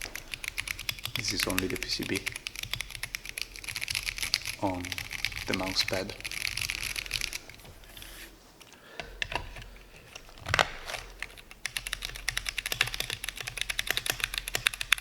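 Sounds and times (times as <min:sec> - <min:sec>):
typing on keyboard: 0:00.0 - 0:07.6, 0:09.0 - 0:15.0.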